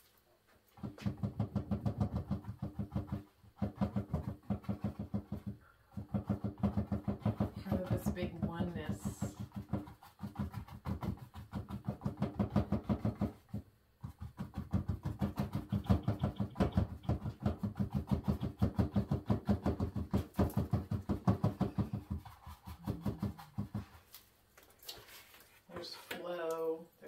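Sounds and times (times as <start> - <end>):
paintbrush tapping on canvas: 0.8 - 24.0.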